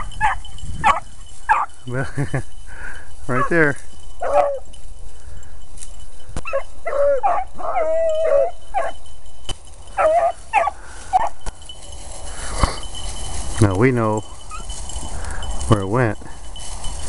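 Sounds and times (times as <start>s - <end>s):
dogs baying: 0.0s - 13.4s, 14.2s - 15.6s.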